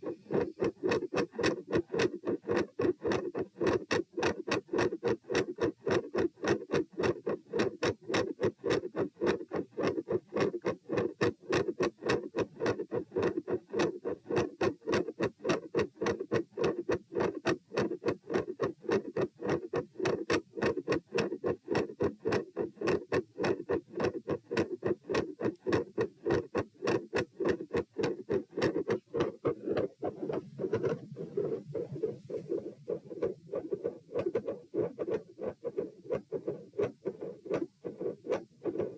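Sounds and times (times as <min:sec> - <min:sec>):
heartbeat through stethoscope: 0:00.0 - 0:38.9.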